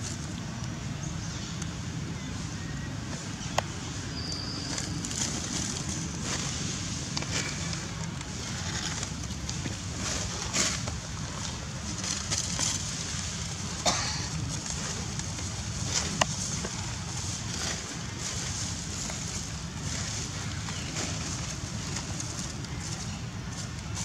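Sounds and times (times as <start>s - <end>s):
dry leaves crackling: 0.0s - 24.0s
steady low rumble: 0.0s - 24.0s.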